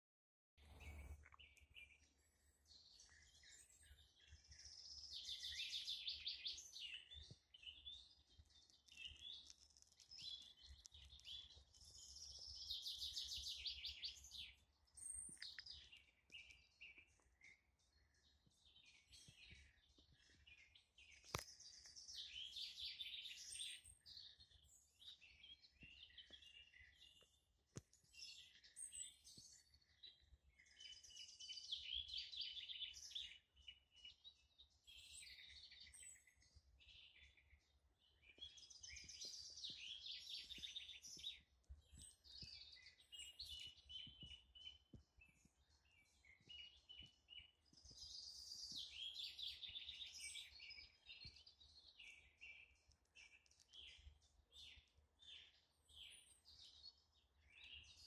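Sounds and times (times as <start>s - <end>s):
birds chirping: 0.6s - 58.0s
songbirds trilling: 0.6s - 58.0s.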